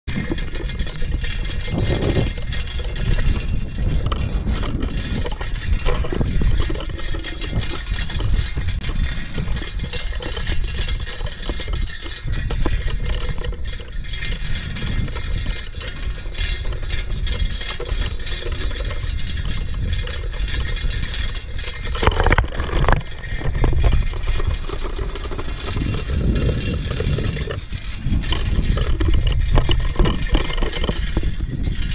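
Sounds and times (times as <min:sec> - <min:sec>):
bicycle rattling: 0:00.0 - 0:31.9
bicycle tyre noise on road: 0:00.0 - 0:31.9
wind buffeting microphone: 0:00.1 - 0:31.9.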